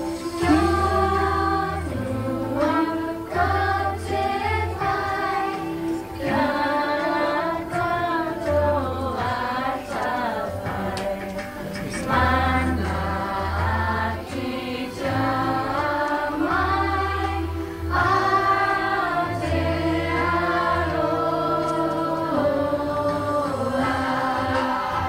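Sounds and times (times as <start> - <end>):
dance music with group vocals: 0.0 - 25.0.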